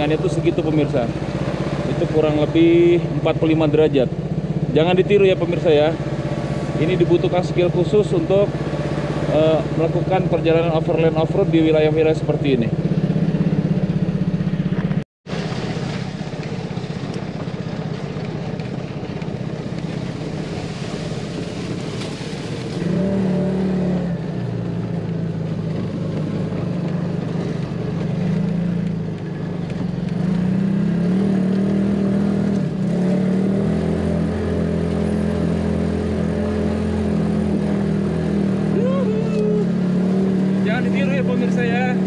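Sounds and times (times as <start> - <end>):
off-road vehicle engine running: 0.0 - 42.0.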